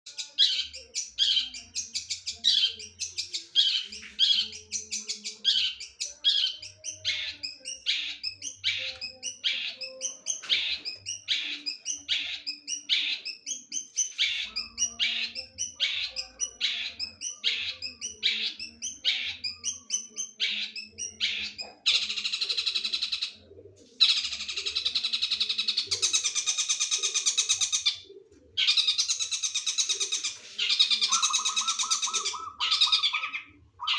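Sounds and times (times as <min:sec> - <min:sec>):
bird rapid chatter: 0:00.1 - 0:23.4, 0:24.0 - 0:28.0, 0:28.6 - 0:33.9.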